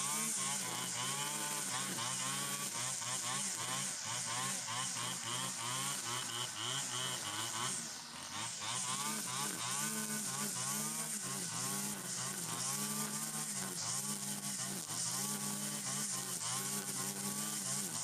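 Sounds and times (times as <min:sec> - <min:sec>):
brush cutter cutting grass: 0:00.0 - 0:18.0.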